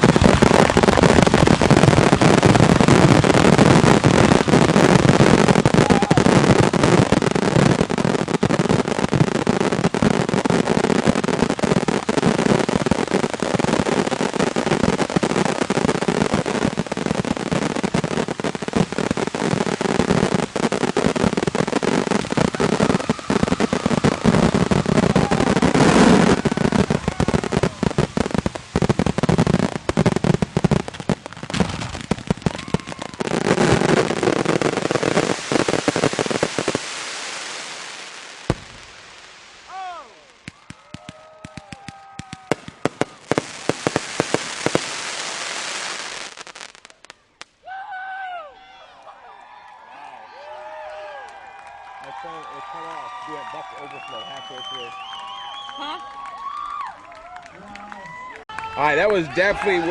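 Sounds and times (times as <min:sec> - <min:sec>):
fireworks bangs and crackling: 0:00.0 - 0:47.7, 0:50.4 - 0:59.9.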